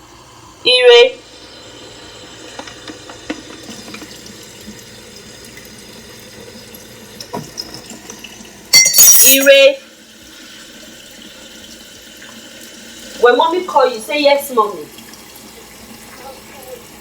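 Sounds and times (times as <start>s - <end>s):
water running from tap: 0.0s - 17.0s.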